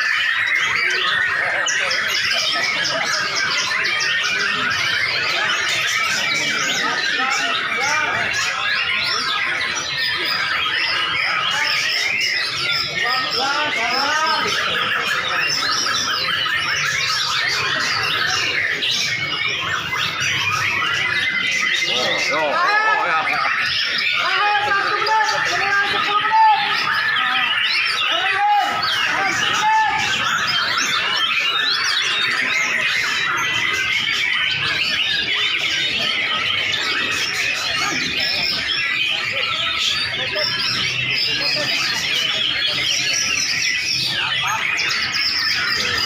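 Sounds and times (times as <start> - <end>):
songbirds singing: 0.0 - 46.0.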